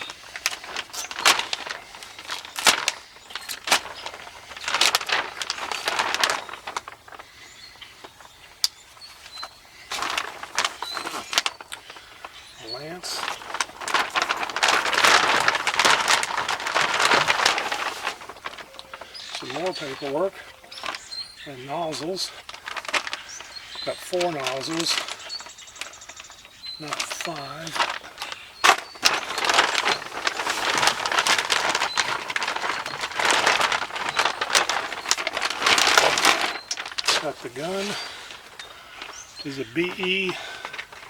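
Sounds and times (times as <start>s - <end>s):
packaging crinkling: 0.0s - 41.0s.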